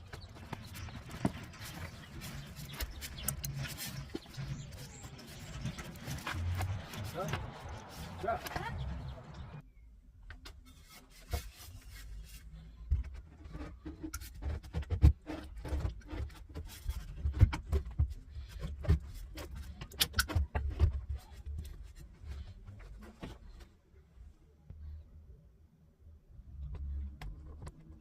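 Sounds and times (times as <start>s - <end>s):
tools and parts being handled: 0.0s - 9.6s, 10.3s - 23.7s.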